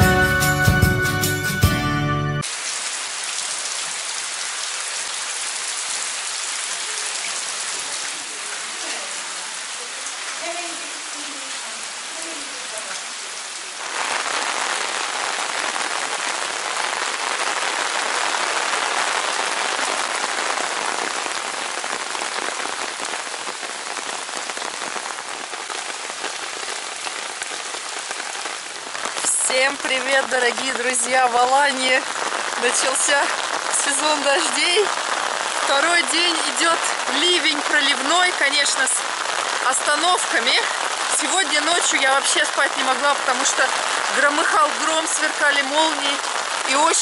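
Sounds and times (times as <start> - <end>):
heavy rain on paving: 0.0 - 47.0.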